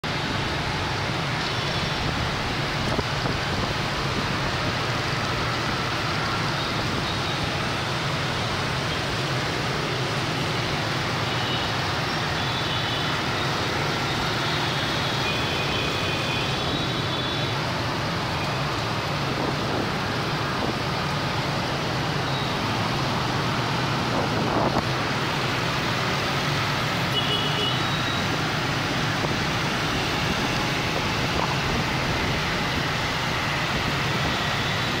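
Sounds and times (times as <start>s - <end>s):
road noise rushing: 0.0s - 35.0s
motorbike engines running: 0.1s - 35.0s.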